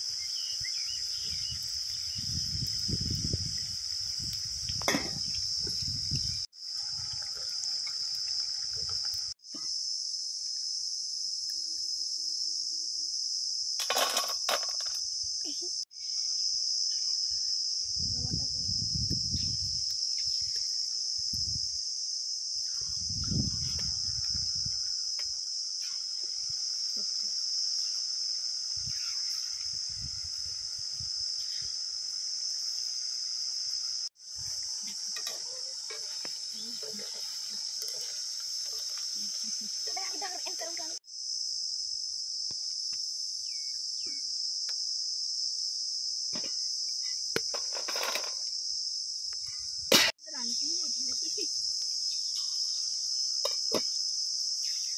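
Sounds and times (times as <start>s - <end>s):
insects chirring: 0.0s - 54.9s.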